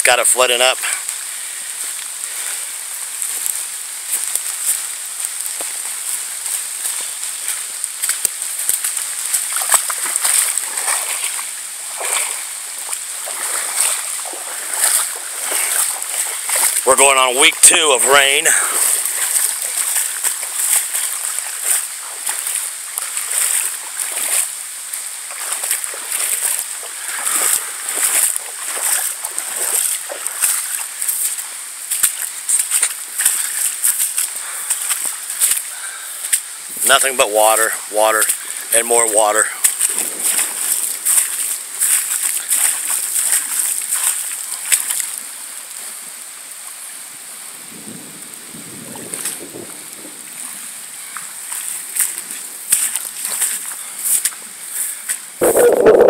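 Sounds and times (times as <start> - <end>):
footsteps splashing through water: 0.0 - 46.9, 47.6 - 56.0
steady high hiss: 0.0 - 48.5.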